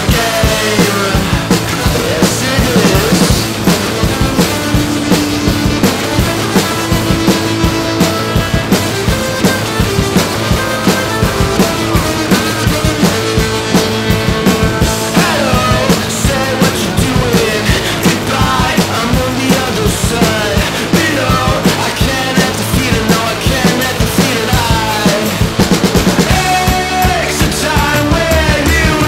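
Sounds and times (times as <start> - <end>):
rock music with drum beat: 0.0 - 29.0.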